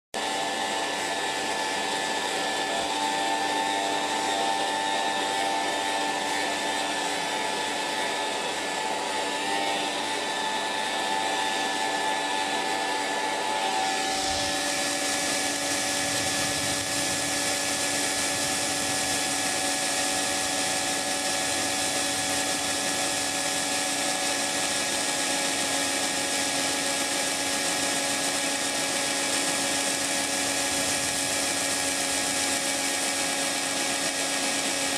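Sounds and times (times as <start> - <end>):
hair dryer running: 0.1 - 34.9.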